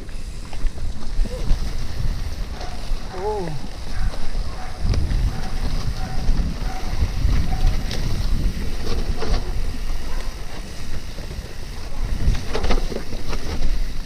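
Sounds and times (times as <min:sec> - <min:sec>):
bike clicks and knocks: 0:00.0 - 0:14.0
wind buffeting microphone: 0:00.0 - 0:14.0.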